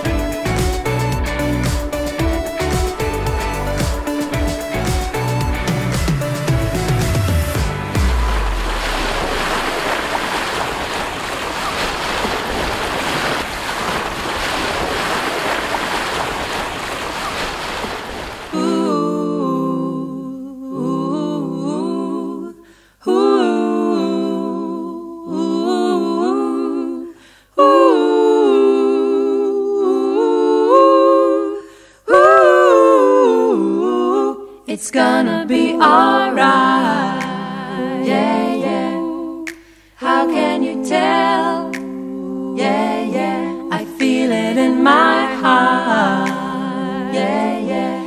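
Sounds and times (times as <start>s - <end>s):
a cappella voices humming and singing: 0.0s - 9.6s, 18.4s - 48.0s.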